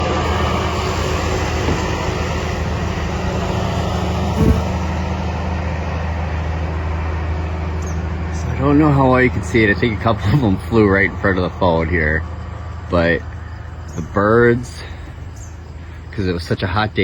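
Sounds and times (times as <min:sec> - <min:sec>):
low mechanical drone: 0:00.0 - 0:17.0.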